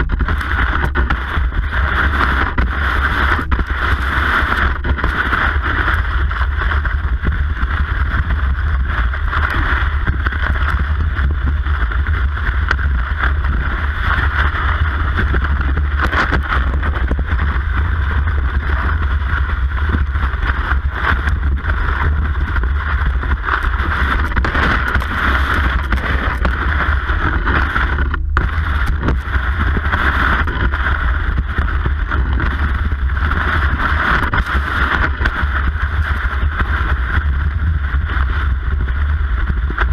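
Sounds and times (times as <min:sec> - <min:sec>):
skis gliding on snow: 0:00.0 - 0:39.9.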